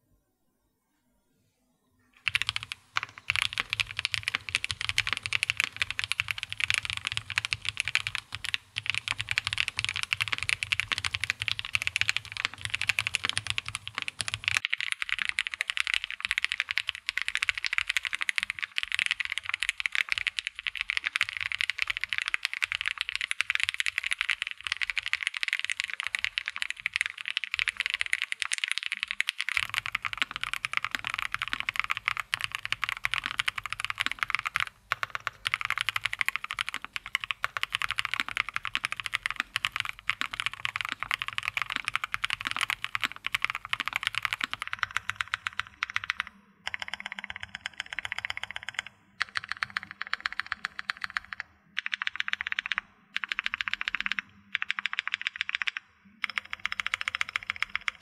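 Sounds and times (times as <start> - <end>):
mechanical keyboard typing: 2.2 - 58.0.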